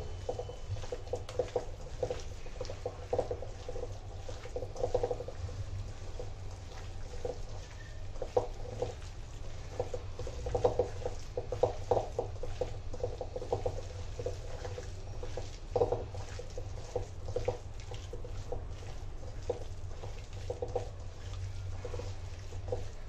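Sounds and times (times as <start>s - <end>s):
steady low hum: 0.0s - 23.0s
wet squelching of kneading: 0.0s - 23.0s.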